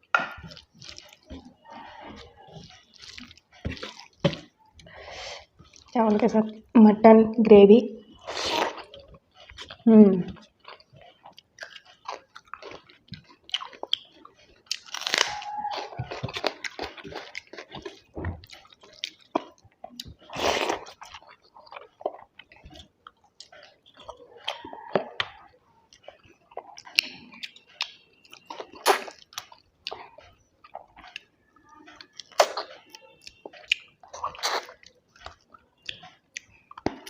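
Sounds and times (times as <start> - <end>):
person chewing food: 0.0 - 6.7, 8.0 - 37.0.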